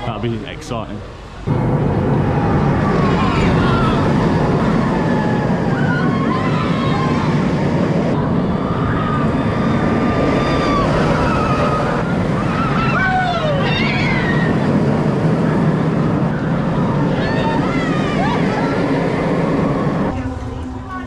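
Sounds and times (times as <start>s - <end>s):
indistinct voices: 0.0s - 21.0s
loud background noise: 0.0s - 21.0s.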